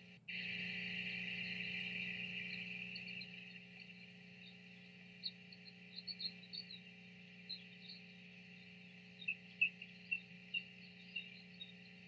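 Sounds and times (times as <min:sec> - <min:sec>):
steady low hum: 0:00.0 - 0:12.0
small birds chirping: 0:00.3 - 0:12.0.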